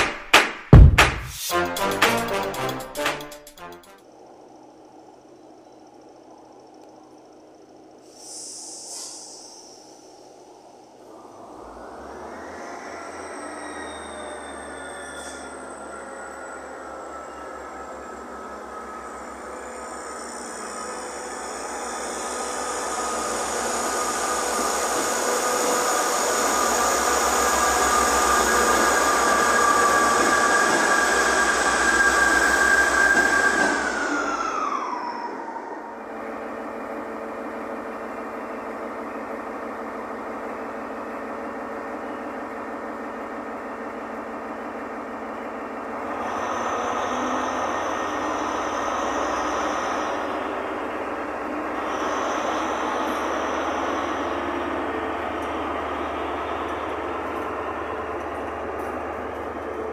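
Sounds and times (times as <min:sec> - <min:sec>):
diesel locomotive engine humming: 0:03.5 - 0:59.9
diesel train engine whine: 0:03.7 - 0:59.9.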